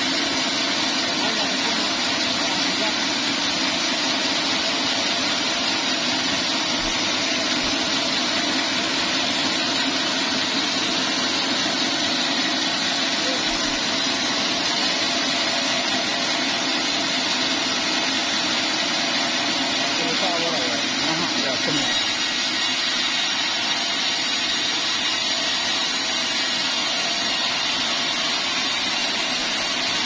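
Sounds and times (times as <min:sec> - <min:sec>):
bandsaw mill running: 0:00.0 - 0:30.0.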